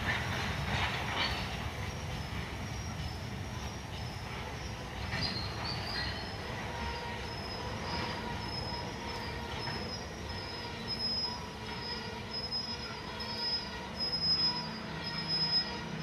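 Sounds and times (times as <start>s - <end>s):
high wheel squeal: 0.0s - 16.0s
train wheels rumbling on rail: 0.0s - 16.0s.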